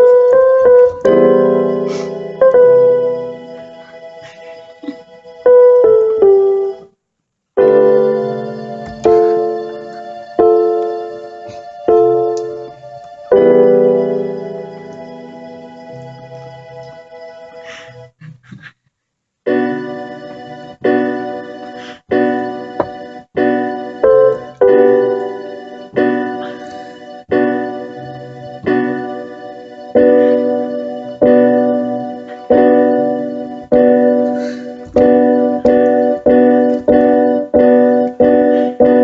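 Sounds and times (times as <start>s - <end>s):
keyboard playing chords: 0.0s - 7.0s, 7.6s - 18.2s, 19.4s - 39.0s.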